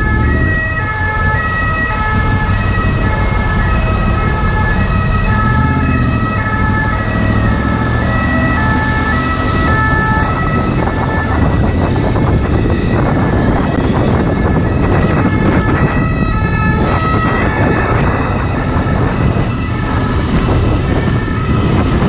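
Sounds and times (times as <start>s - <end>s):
motorcycle engine rumble: 0.0s - 22.0s
two-tone ambulance siren: 0.0s - 22.0s
wind rushing past microphone: 0.0s - 22.0s.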